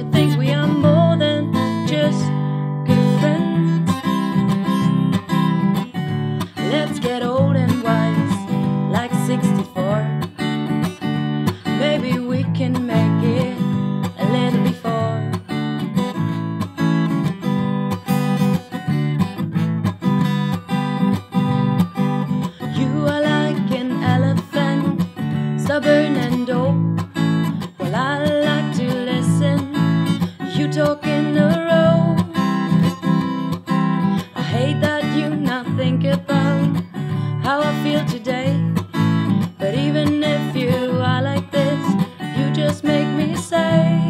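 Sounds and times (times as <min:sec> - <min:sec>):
woman singing: 0:00.0 - 0:15.7, 0:22.4 - 0:44.0
acoustic guitar strumming: 0:00.0 - 0:44.0.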